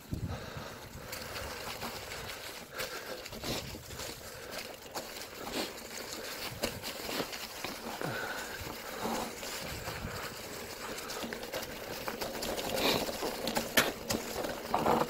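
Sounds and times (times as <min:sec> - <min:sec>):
bicycle tyres crunching dry leaves: 0:00.0 - 0:15.0.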